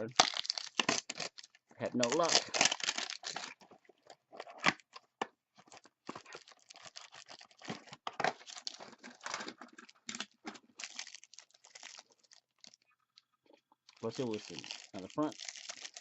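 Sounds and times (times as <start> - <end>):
packaging tearing and crinkling: 0.0 - 5.0, 5.6 - 12.8, 13.9 - 16.0.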